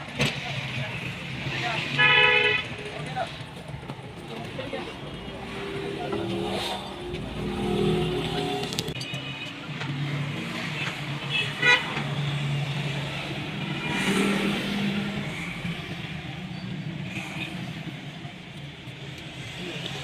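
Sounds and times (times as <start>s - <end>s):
vehicle engines running: 2.6s - 20.0s.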